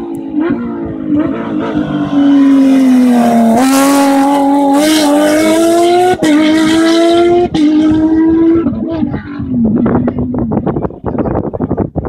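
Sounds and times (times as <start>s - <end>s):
rally car engine accelerating: 0.0s - 10.7s.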